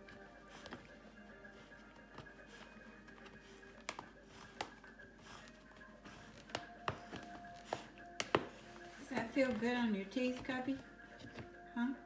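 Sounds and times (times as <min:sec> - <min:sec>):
puppy chewing toys: 0:00.0 - 0:11.6.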